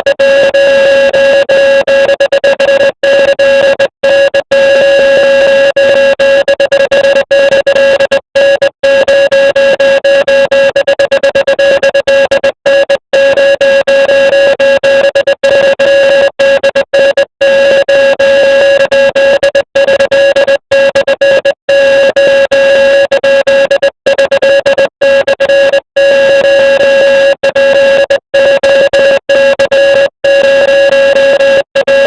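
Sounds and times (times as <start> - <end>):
morse code electronic tone: 0.0 - 32.0.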